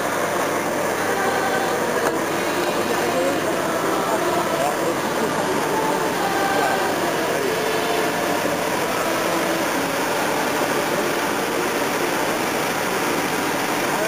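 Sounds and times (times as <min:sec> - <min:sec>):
off-road vehicle engine running: 0:00.0 - 0:14.0
steady hiss: 0:00.0 - 0:14.0.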